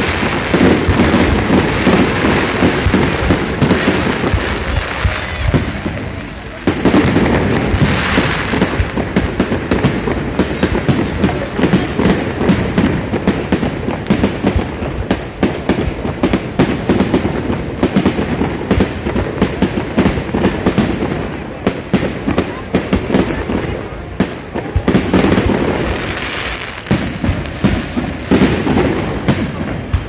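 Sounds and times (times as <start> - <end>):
firework hiss: 0.0 - 30.0
fireworks bangs and crackles: 0.0 - 30.0.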